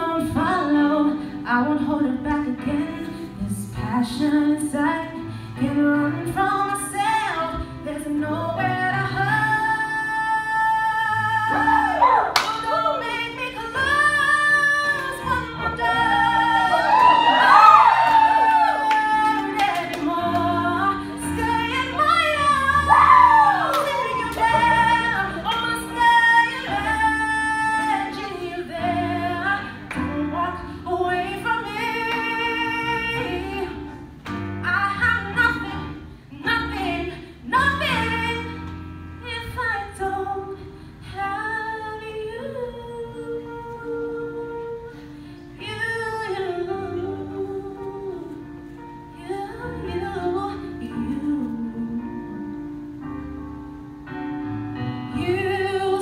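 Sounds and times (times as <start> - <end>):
woman singing a power ballad: 0.0 - 52.9, 55.1 - 56.0.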